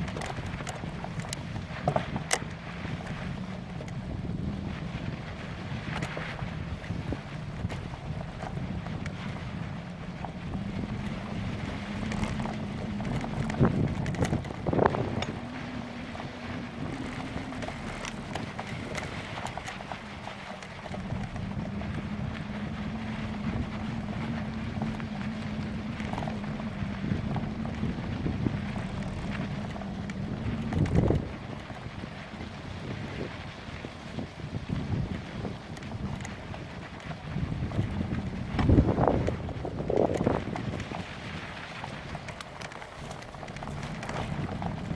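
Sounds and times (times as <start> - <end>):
low rolling hum of bicycle: 0.0 - 44.9
wind buffeting microphone: 0.0 - 44.9.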